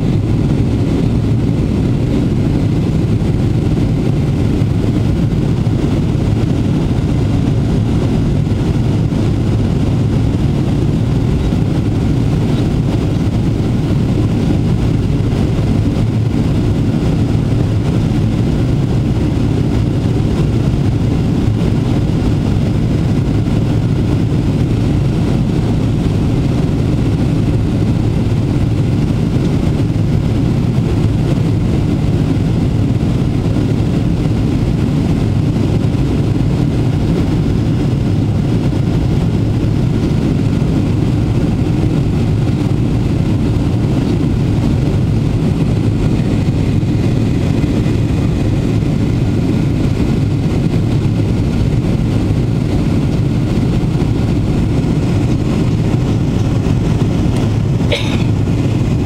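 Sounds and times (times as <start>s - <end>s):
air rushing past fuselage: 0.0s - 59.0s
aircraft engines running: 0.0s - 59.0s.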